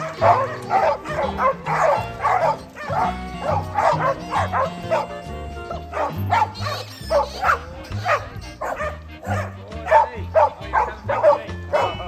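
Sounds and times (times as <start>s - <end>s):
background music with bass notes: 0.0s - 12.0s
dog barking: 0.0s - 12.0s.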